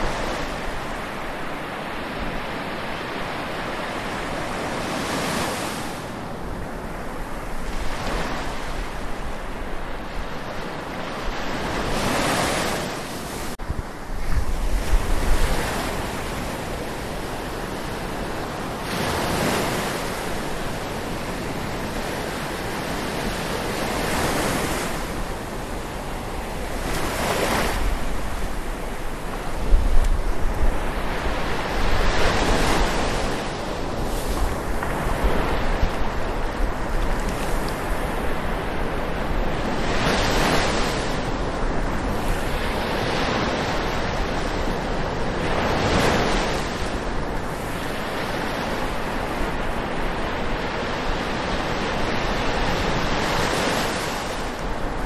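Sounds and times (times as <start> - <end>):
ocean waves washing ashore: 0.0 - 55.0
wind rumble on microphone: 0.0 - 55.0.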